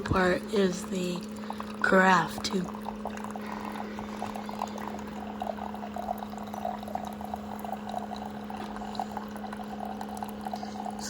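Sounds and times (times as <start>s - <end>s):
coffee gurgling and bubbling: 0.0s - 11.0s
coffee maker humming: 0.0s - 11.0s.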